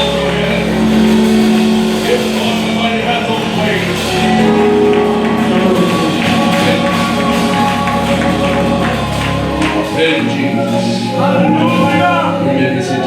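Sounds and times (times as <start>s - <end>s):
low held bass note: 0.0s - 12.5s
church band playing gospel: 0.0s - 13.0s
people singing: 0.0s - 13.0s.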